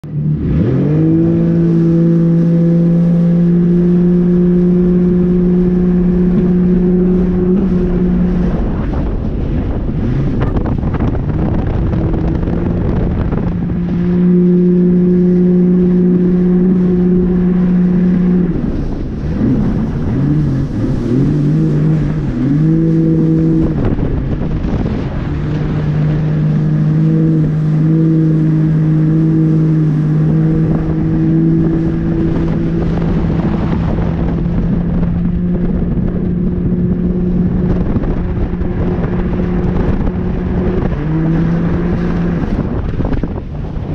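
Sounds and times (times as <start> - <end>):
jet ski engine running: 0.0 - 43.9
rushing wind and spray: 0.0 - 43.9.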